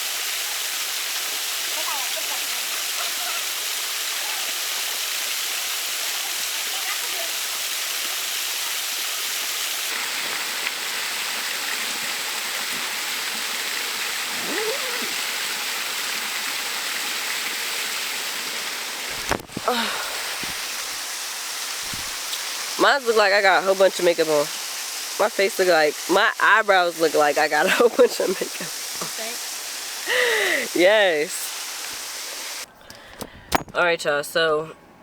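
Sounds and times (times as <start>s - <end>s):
small waterfall rushing: 0.0s - 32.7s.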